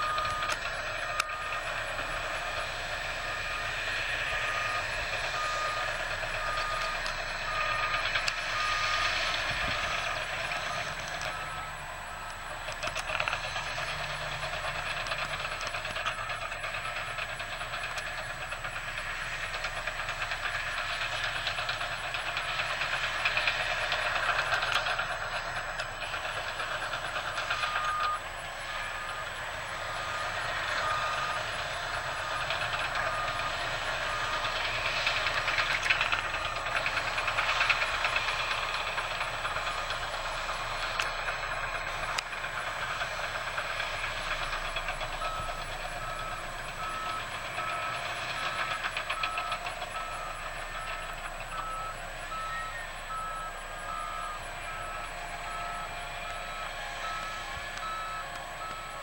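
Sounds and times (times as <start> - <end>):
diesel machinery engines clattering: 0.0 - 59.0
reversing alarm beeping: 0.0 - 59.0.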